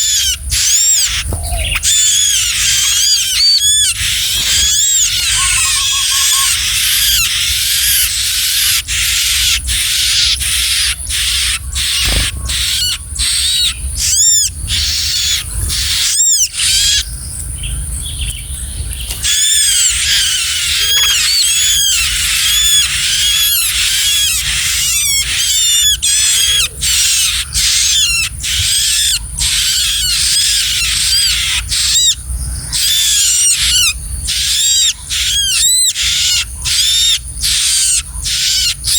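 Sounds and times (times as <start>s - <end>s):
bird high-pitched chirping: 0.0s - 38.9s.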